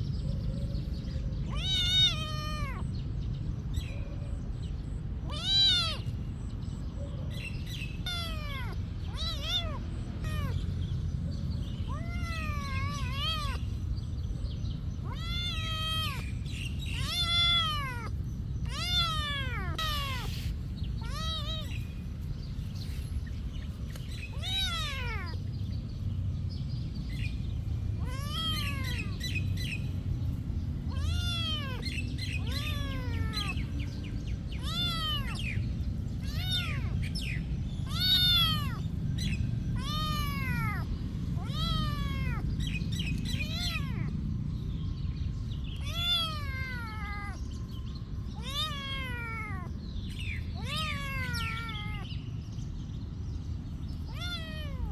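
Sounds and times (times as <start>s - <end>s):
kitten meowing: 0.9s - 3.1s, 5.2s - 6.4s, 7.4s - 26.0s, 28.0s - 44.1s, 45.8s - 52.1s, 54.0s - 54.9s.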